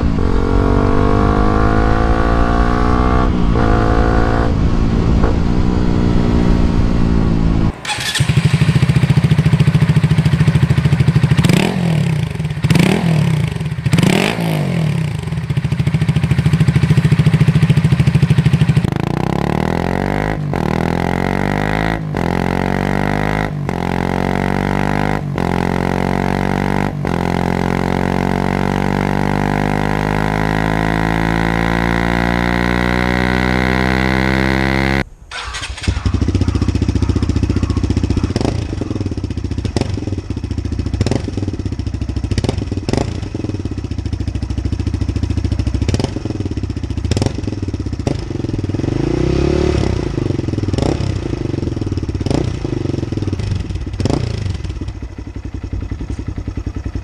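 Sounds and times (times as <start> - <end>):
motorcycle throttle blips: 0.0 - 19.1, 20.4 - 48.8, 49.8 - 57.0
motorcycle exhaust: 0.0 - 57.0
motorcycle revs climbing: 0.0 - 57.0.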